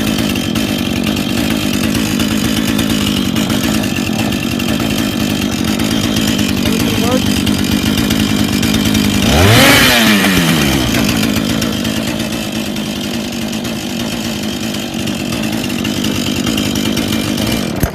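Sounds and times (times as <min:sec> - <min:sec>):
chainsaw engine idling: 0:00.0 - 0:17.9.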